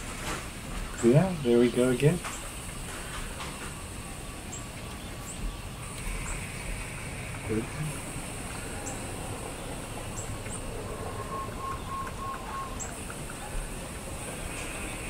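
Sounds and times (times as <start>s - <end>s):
background hiss: 0.0s - 15.0s
faint birds chirping: 0.7s - 15.0s.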